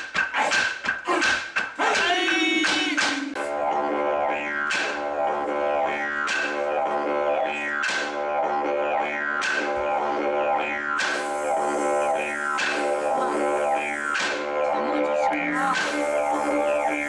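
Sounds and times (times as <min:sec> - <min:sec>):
didgeridoo drone: 0:03.3 - 0:17.0.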